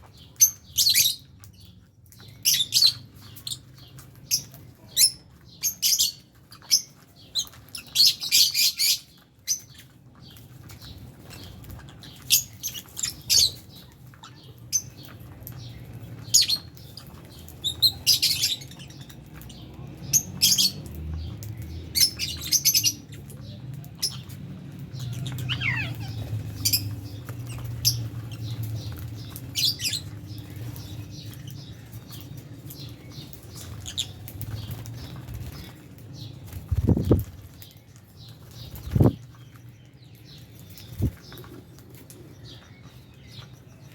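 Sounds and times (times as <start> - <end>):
lovebirds chirping and squawking: 0.0 - 43.9.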